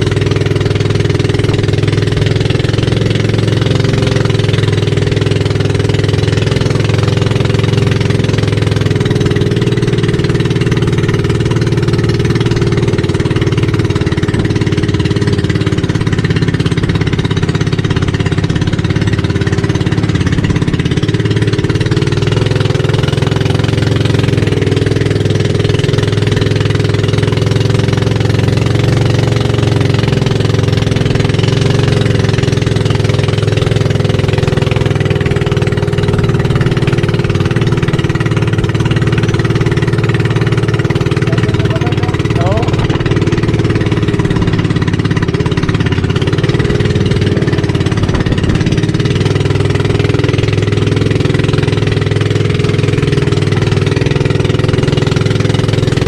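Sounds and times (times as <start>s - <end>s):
boat engine running: 0.0s - 56.0s
water rushing past hull: 0.0s - 56.0s.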